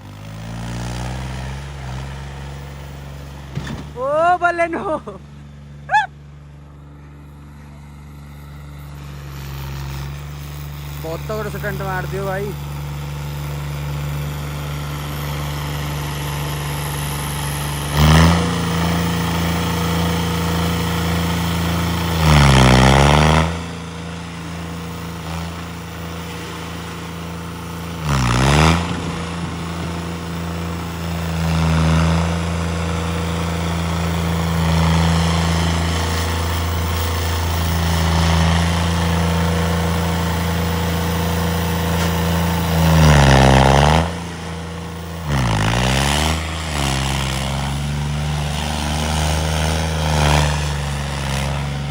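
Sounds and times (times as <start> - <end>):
tractor engine revving: 0.0 - 51.9.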